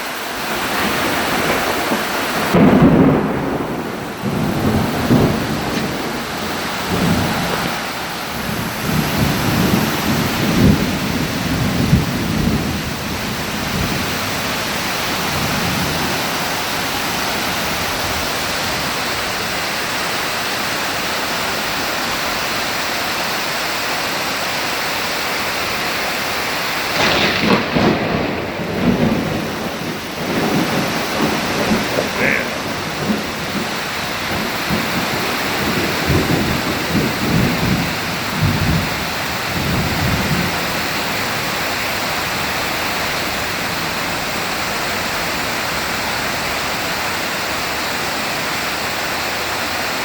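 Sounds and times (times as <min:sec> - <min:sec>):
thunder rumbling: 0:00.0 - 0:48.5
heavy rain: 0:00.0 - 0:50.0.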